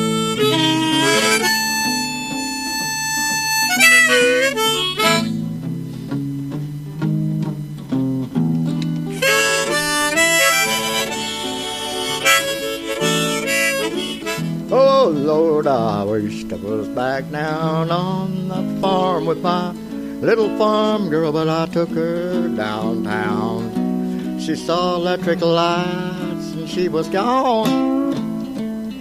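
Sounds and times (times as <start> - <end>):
harmonica playing: 0.0 - 6.2, 8.7 - 28.1
guitar chords: 0.0 - 29.0.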